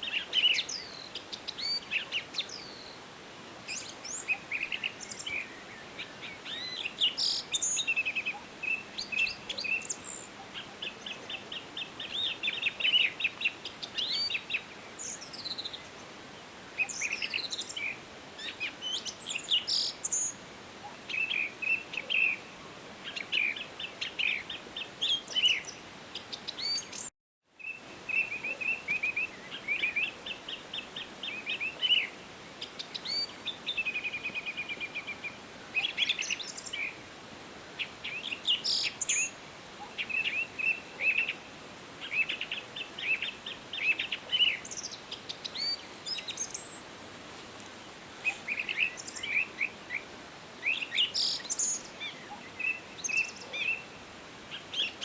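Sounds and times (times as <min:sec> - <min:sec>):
songbirds singing and trilling: 0:00.0 - 0:37.1, 0:37.8 - 0:46.9, 0:47.6 - 0:55.0
faint background hiss: 0:00.0 - 0:55.0.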